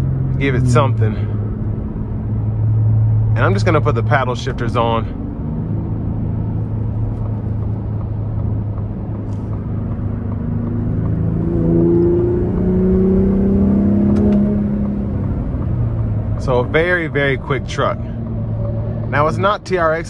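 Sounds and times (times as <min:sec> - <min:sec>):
truck engine accelerating: 0:00.0 - 0:20.0.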